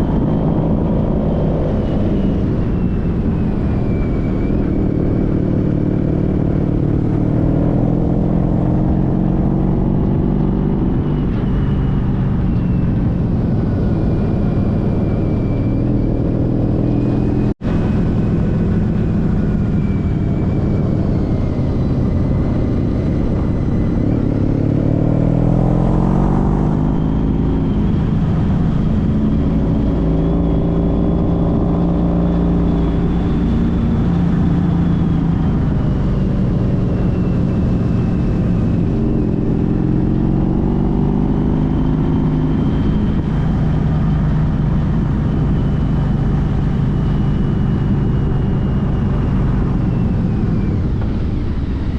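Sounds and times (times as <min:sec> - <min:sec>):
motorcycle engine revving: 0:00.0 - 0:51.9
wind rush: 0:00.0 - 0:51.9.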